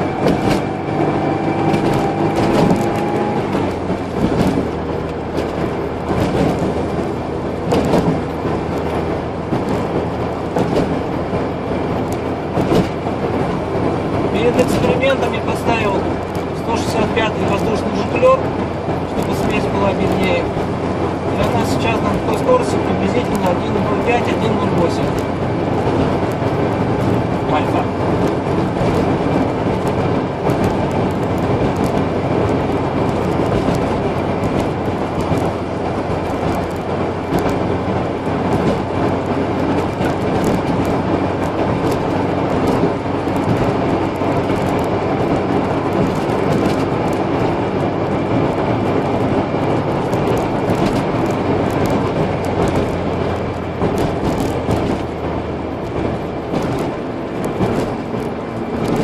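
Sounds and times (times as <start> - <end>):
car engine hum: 0.0 - 59.0
tyre and road noise: 0.0 - 59.0.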